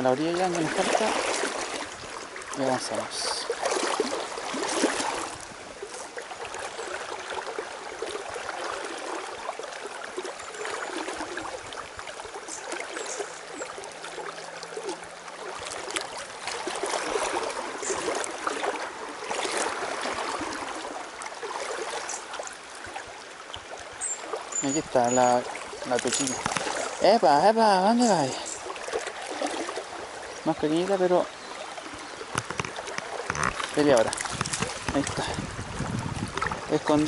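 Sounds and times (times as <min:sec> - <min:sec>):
river current flowing: 0:00.0 - 0:37.0.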